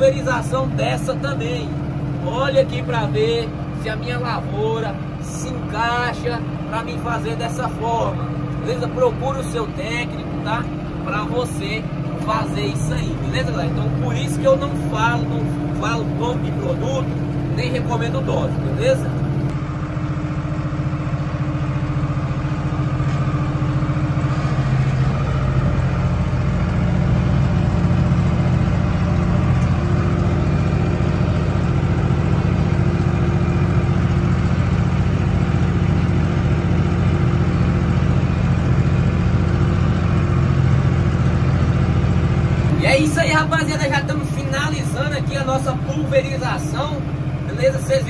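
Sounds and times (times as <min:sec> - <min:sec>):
sprayer fan blowing: 0:00.0 - 0:48.0
tractor engine running: 0:00.0 - 0:48.0.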